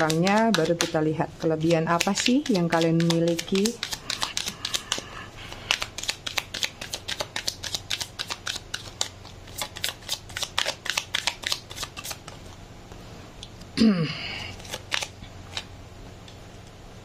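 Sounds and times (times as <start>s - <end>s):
cards being shuffled: 0.0s - 12.6s, 14.5s - 15.7s.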